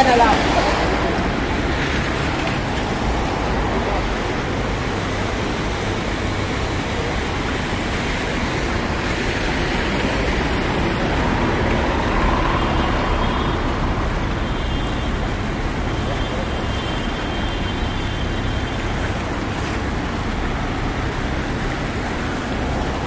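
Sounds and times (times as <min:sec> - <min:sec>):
dense city traffic rumble: 0:00.0 - 0:23.0.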